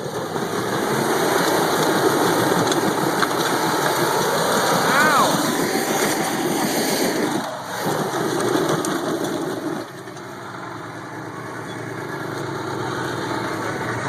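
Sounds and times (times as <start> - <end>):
pickup truck engine running hard: 0.0 - 14.0.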